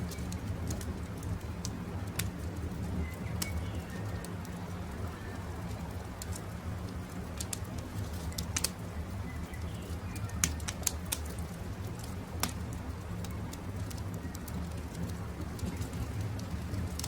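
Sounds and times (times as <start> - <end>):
faint birdsong: 0.0 - 16.9
campfire crackling and popping: 0.0 - 17.0.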